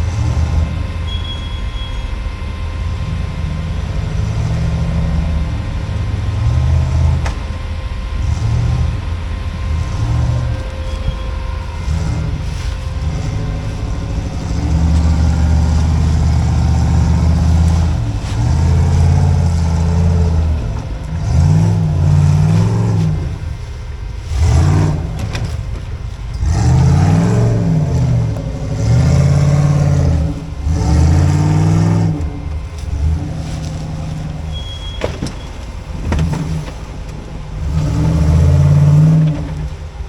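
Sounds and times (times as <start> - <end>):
engine revving hard: 0.0 - 1.1, 2.9 - 40.0.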